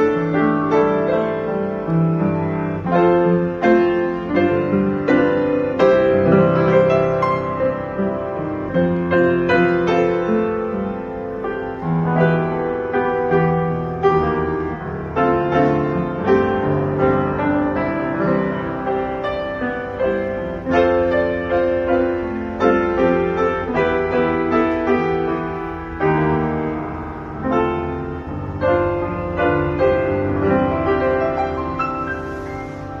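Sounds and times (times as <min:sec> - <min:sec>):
piano piece: 0:00.0 - 0:33.0.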